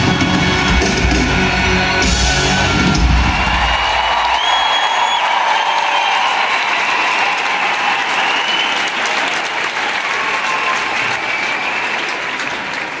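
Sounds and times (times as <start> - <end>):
crowd applauding: 0.7 - 13.0.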